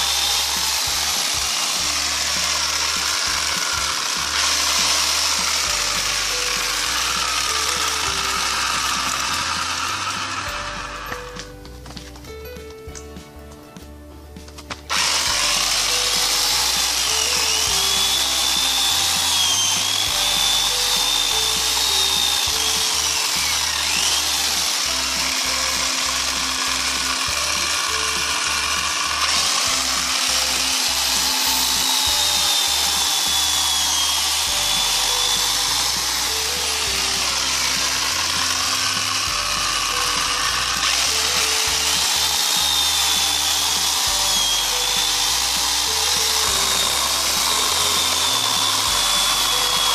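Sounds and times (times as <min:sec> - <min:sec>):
electric chainsaw cutting log: 0:00.0 - 0:13.6, 0:14.4 - 0:49.9
background music: 0:00.0 - 0:49.9.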